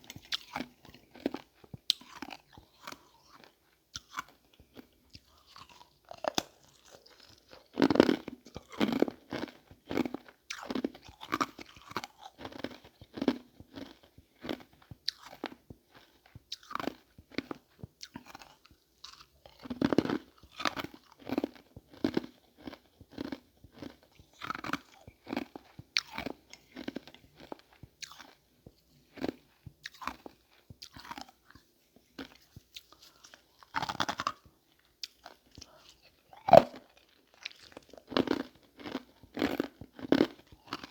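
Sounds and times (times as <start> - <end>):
ice crunching while chewed: 0.0 - 40.9.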